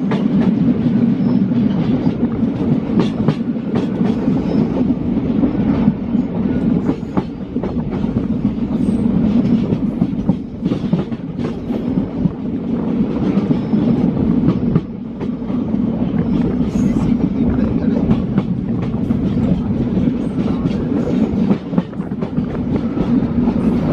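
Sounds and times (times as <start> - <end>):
train rumbling on track: 0.0 - 23.9.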